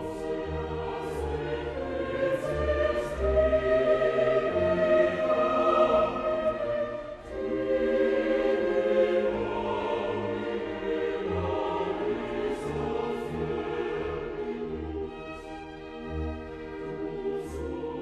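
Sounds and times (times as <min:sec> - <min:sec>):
choral voices over orchestra: 0:00.0 - 0:18.0.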